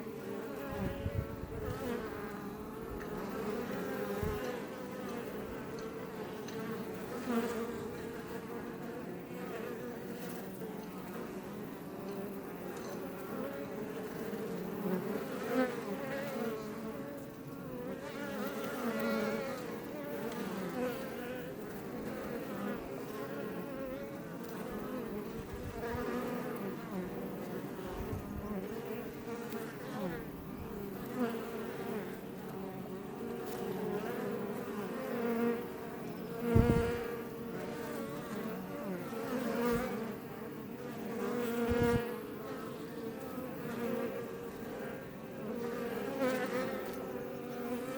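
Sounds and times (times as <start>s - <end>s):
bees buzzing: 0.0s - 47.9s.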